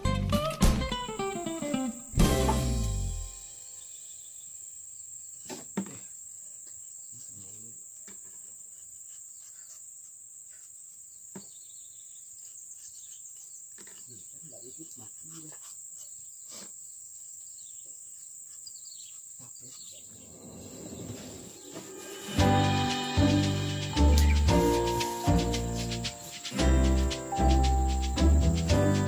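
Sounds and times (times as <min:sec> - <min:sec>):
insects droning: 0:01.1 - 0:29.0.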